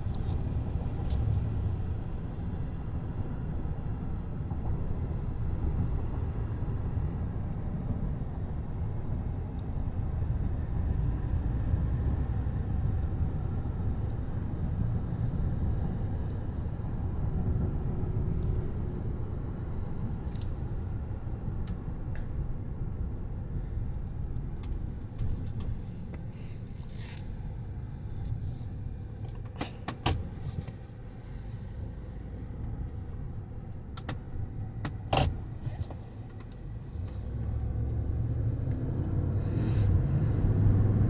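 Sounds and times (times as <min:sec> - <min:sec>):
car cabin road and engine rumble: 0:00.0 - 0:41.0.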